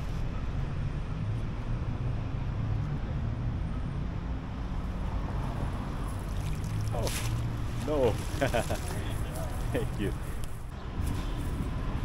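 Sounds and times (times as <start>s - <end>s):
low rumble of city traffic: 0.0s - 12.0s.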